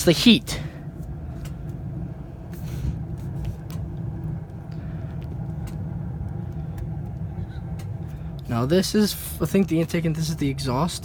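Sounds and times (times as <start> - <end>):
furnace humming: 0.0 - 11.0.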